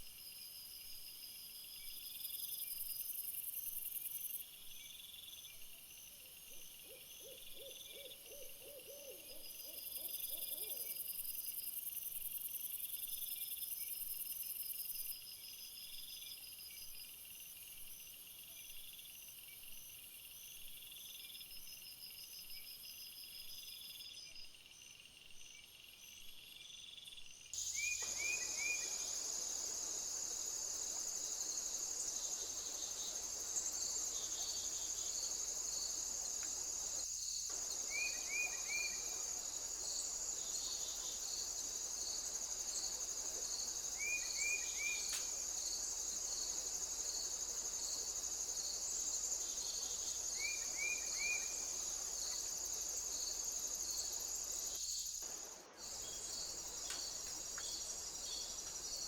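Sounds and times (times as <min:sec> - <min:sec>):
insects stridulating: 0:00.2 - 0:59.0.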